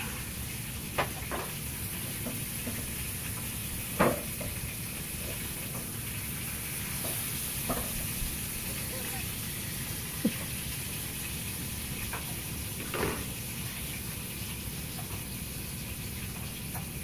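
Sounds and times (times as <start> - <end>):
meat sizzling in frying pan: 0.0 - 17.0.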